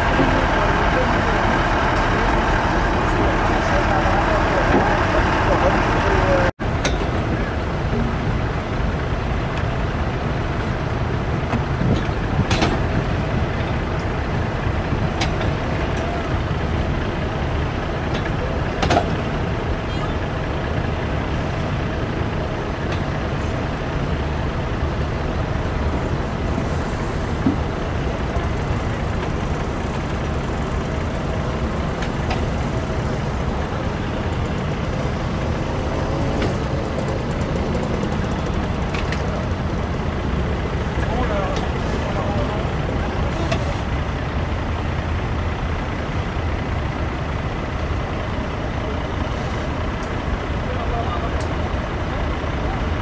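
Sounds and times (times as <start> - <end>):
low mechanical rumble: 0.0 - 53.0.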